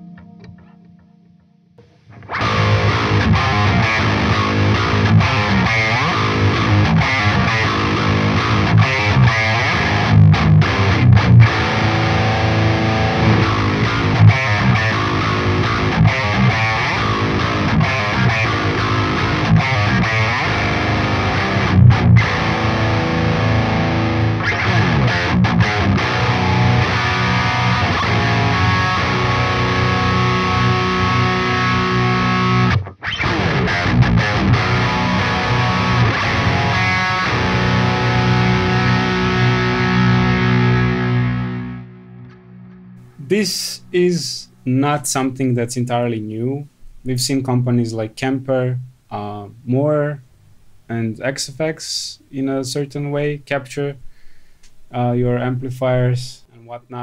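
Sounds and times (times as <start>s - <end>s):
distorted electric guitar riffs: 0.0s - 47.1s.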